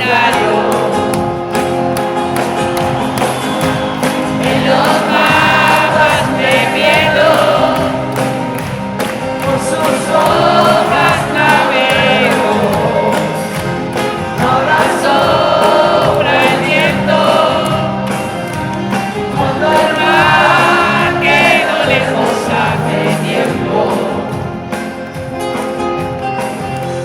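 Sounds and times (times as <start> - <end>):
crowd singing together: 0.0 - 25.1
live band music: 0.0 - 27.0.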